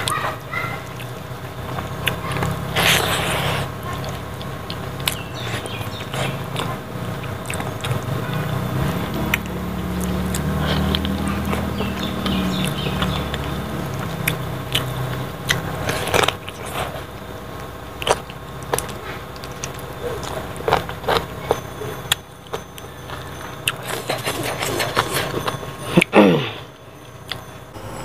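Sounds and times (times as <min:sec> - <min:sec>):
chewing and lip smacking: 0:00.0 - 0:27.7
low hum: 0:00.0 - 0:28.0.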